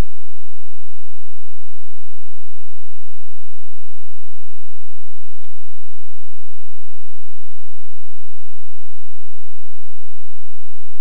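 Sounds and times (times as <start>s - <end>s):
faint steady high tone: 0.0s - 11.0s.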